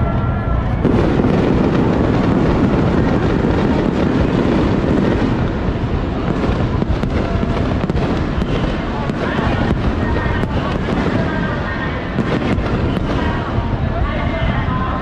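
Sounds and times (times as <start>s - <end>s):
fireworks crackling barrage: 0.0s - 15.0s.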